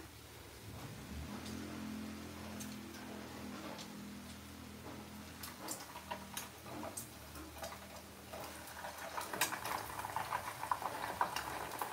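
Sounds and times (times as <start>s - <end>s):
food frying in hot oil: 0.0s - 11.9s.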